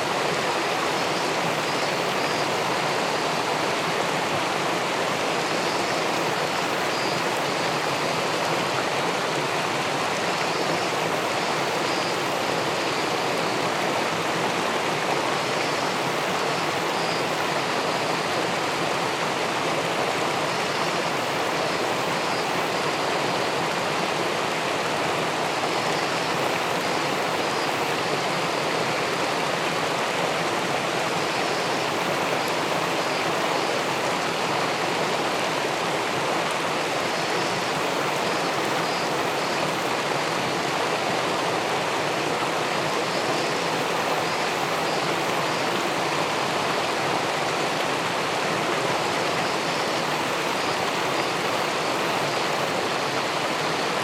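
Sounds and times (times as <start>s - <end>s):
water rushing over a weir: 0.0s - 54.0s.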